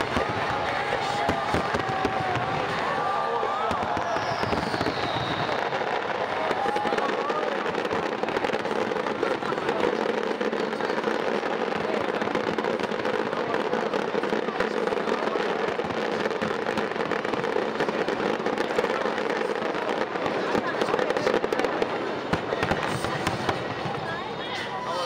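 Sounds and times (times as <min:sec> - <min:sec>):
fireworks popping and crackling: 0:00.0 - 0:25.0.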